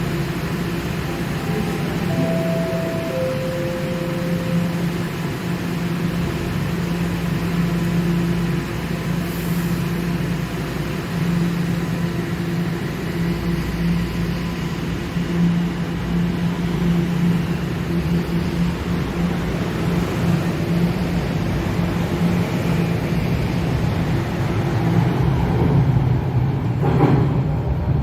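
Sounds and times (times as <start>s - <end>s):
subway train electric hum: 0.0s - 28.0s.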